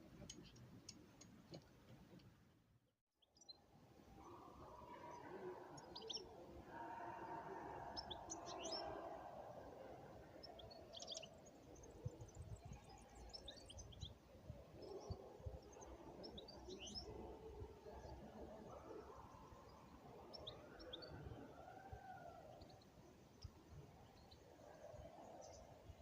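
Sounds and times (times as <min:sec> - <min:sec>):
small birds chirping: 0:00.0 - 0:02.3, 0:03.2 - 0:26.0.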